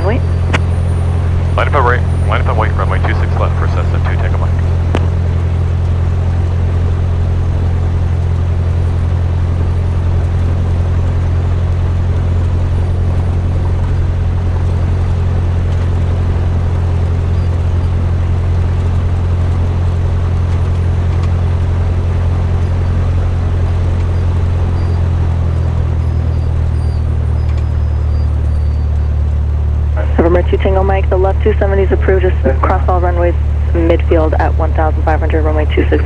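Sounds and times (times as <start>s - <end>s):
propeller plane engine idling: 0.0s - 36.0s.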